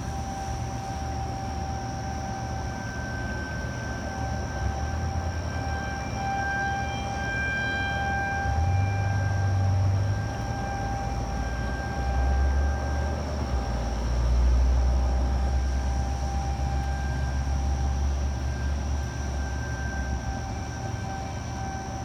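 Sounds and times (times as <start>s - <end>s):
warning siren wailing: 0.0s - 22.0s.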